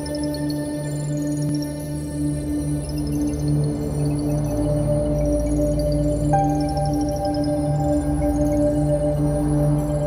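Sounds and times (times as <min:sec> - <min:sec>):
ambient electronic music: 0:00.0 - 0:10.0.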